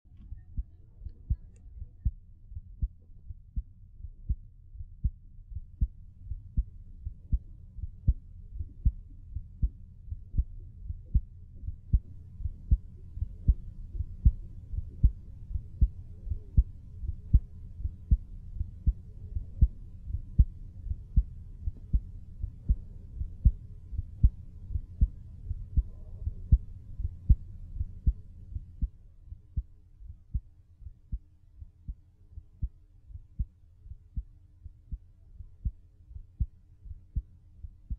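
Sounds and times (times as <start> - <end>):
heartbeat thumps: 0.2 - 37.9.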